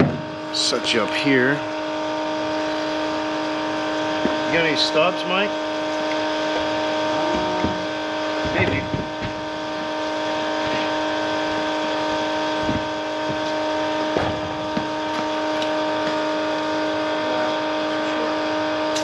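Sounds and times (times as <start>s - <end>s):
electric motor hum: 0.0s - 19.0s.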